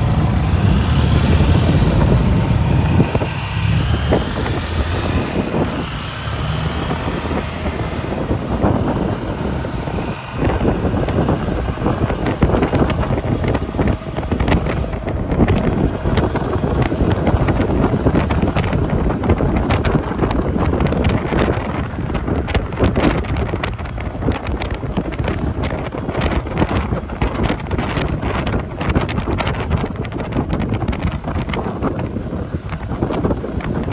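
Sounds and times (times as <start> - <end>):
vehicle noise: 0.0 - 33.9
wind buffeting microphone: 0.0 - 33.9.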